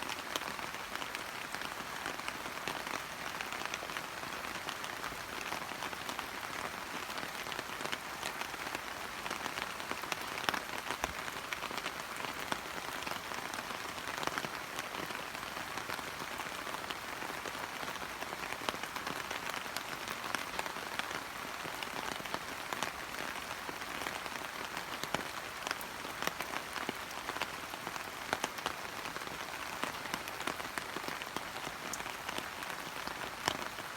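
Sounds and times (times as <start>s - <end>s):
rain pattering on leaves: 0.0s - 33.9s.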